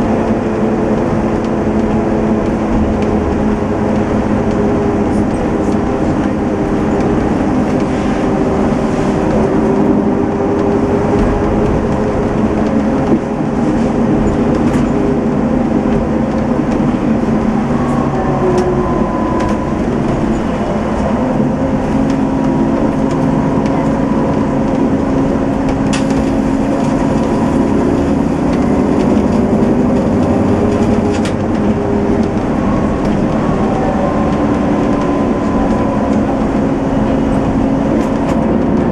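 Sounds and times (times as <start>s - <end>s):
diesel coach engine running: 0.0s - 38.9s
road rumble: 0.0s - 38.9s.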